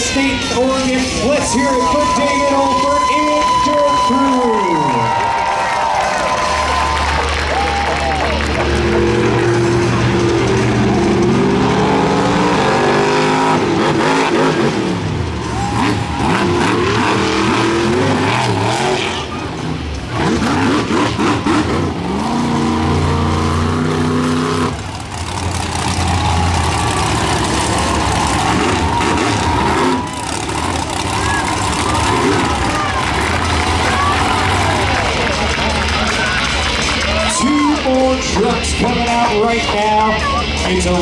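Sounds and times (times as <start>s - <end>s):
truck engine revving loudly: 0.0s - 41.0s.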